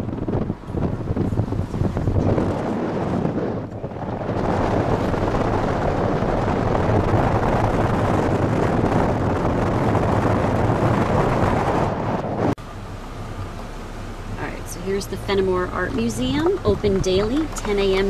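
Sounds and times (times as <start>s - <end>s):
wind and road noise in car: 0.0s - 18.0s.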